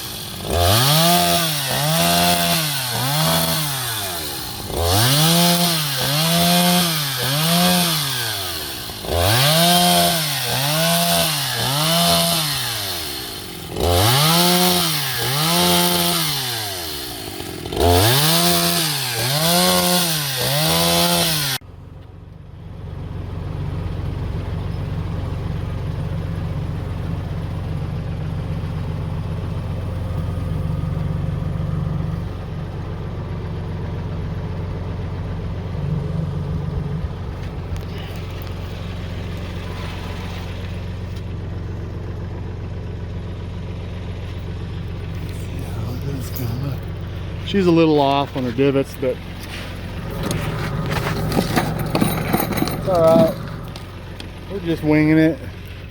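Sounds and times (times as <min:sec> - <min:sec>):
engine idling: 0:00.0 - 0:18.8, 0:21.6 - 0:55.9
small gas engine revving: 0:00.0 - 0:21.6, 0:28.7 - 0:42.9, 0:43.6 - 0:55.9.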